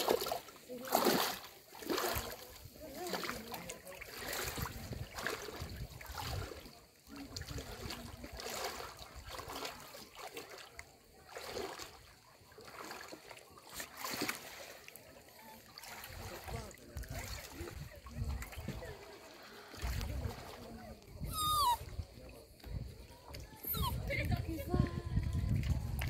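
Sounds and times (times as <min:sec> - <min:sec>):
sea water splashing and lapping: 0:00.0 - 0:26.0.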